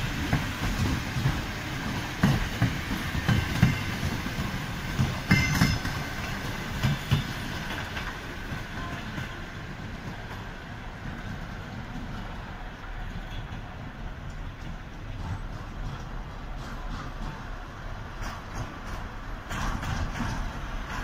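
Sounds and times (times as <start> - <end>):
low train rumble: 0.0 - 21.0
train wheels clacking over rail joints: 0.0 - 21.0.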